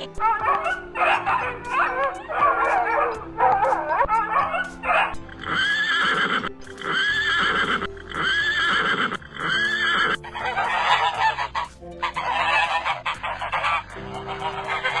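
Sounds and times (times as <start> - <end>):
animal calls: 0.0 - 15.0.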